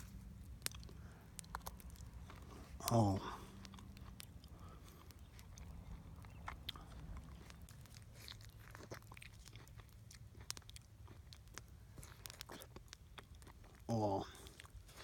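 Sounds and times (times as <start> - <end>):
person chewing wet mouth clicks: 0.0 - 15.0.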